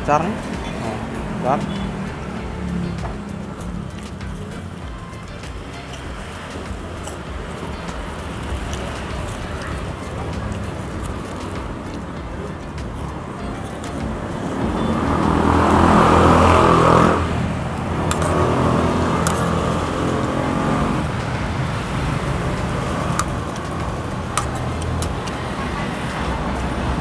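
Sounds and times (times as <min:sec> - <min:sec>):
steady traffic hum: 0:00.0 - 0:27.0
vehicles passing close by: 0:00.0 - 0:27.0.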